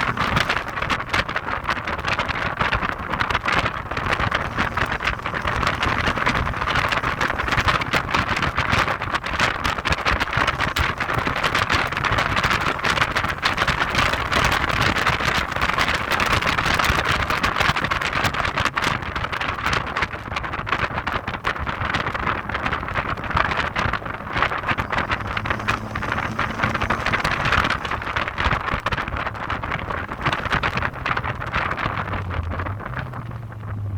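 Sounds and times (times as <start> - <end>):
car road noise: 0.0 - 33.9
wind buffeting microphone: 0.0 - 33.9.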